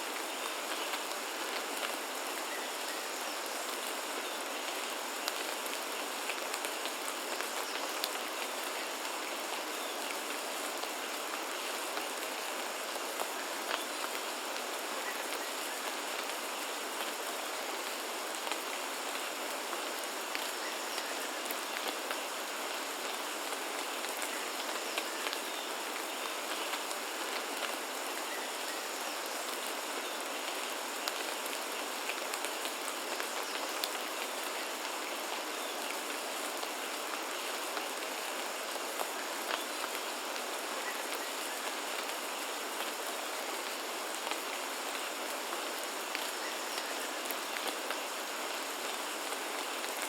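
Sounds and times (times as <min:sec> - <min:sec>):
rain drops ticking on surfaces: 0:00.0 - 0:50.0.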